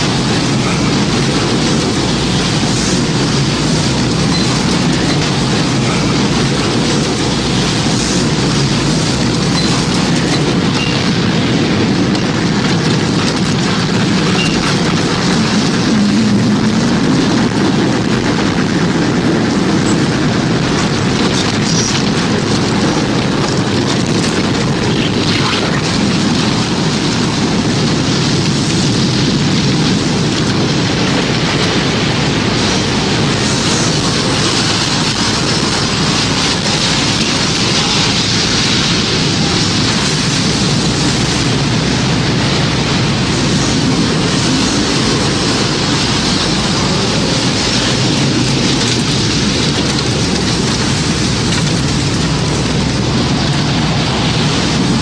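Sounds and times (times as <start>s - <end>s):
deep low rumble: 0.0s - 55.0s
rain: 0.0s - 55.0s
wind rushing: 0.0s - 55.0s.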